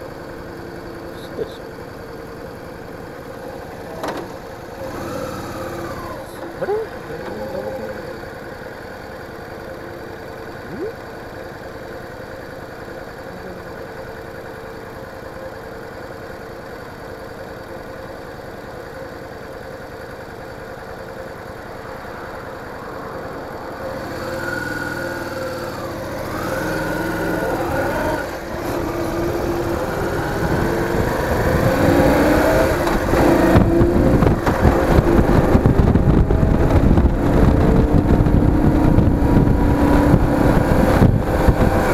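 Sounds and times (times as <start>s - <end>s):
motorcycle engine idling and accelerating: 0.0s - 41.9s.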